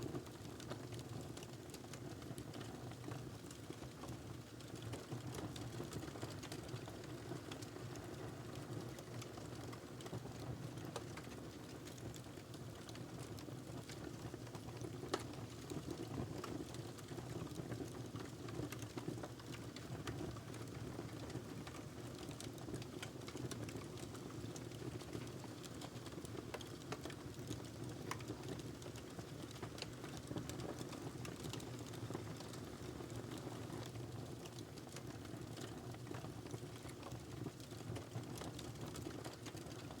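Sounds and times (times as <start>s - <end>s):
fire crackling in a fireplace: 0.0s - 40.0s.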